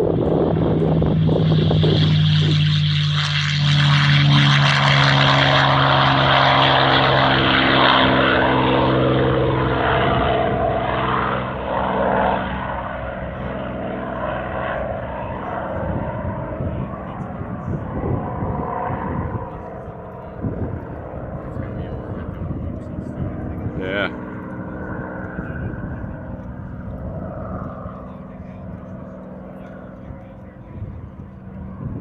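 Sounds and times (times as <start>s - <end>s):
propeller plane engine drone: 0.0s - 32.0s.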